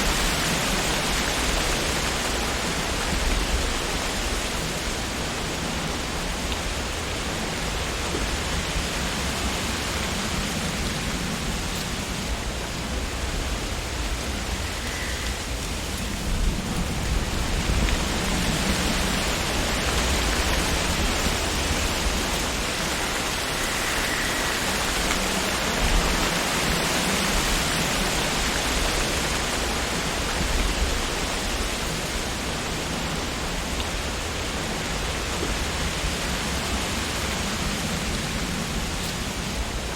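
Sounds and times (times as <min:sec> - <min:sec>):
wind rustling tree leaves: 0:00.0 - 0:39.9.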